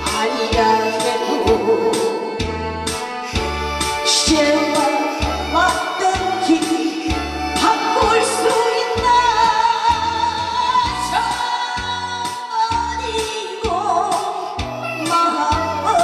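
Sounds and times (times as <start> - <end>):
karaoke backing track with bass beat: 0.0 - 16.0
woman singing into microphone: 0.0 - 16.0.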